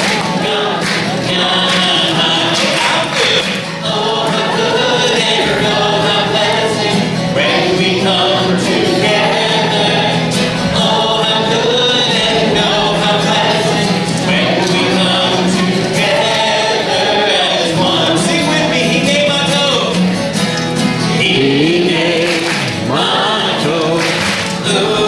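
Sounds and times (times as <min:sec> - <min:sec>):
group of voices singing: 0:00.0 - 0:20.0, 0:20.8 - 0:25.0
man singing into microphone: 0:00.0 - 0:20.0, 0:21.1 - 0:25.0
acoustic guitar: 0:00.0 - 0:25.0.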